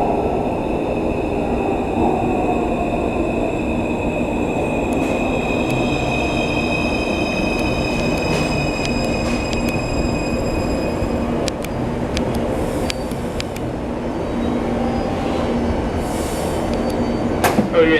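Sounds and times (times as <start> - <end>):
train running at speed: 0.0 - 17.9.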